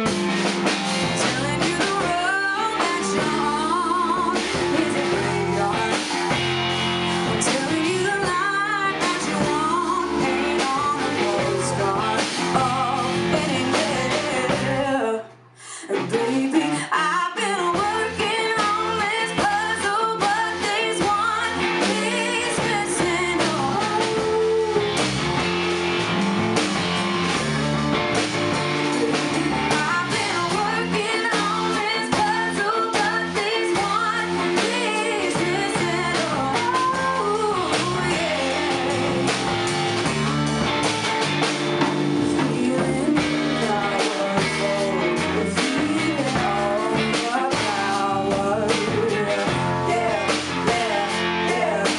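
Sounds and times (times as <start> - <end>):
guitar: 0.0 - 51.9
rock band playing: 0.0 - 51.9
person singing: 1.2 - 6.4, 7.4 - 25.2, 28.9 - 39.8, 42.2 - 51.9.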